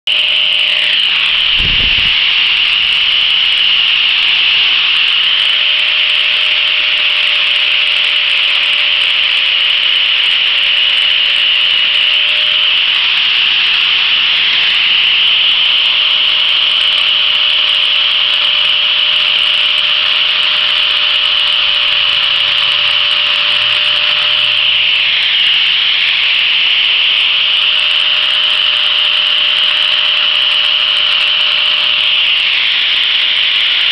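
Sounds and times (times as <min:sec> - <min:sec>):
faint motor whine: 0:00.1 - 0:33.9
power sander rasping on wood: 0:00.1 - 0:33.9.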